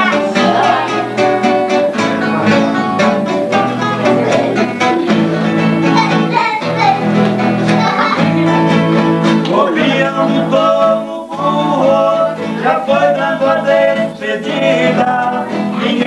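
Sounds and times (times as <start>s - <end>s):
classical guitar playing: 0.0s - 16.0s.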